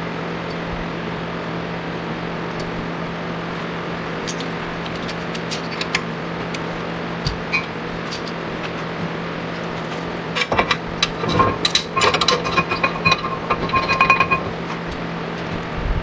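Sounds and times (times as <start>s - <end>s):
workshop hum: 0.0s - 16.0s.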